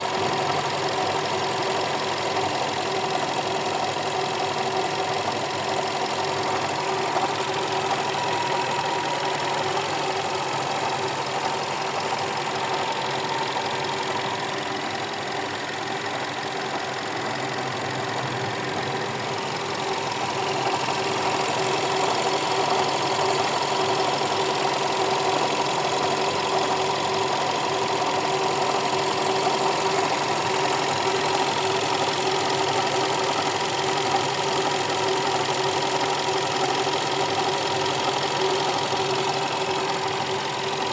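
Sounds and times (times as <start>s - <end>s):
petrol engine idling: 0.1s - 40.9s.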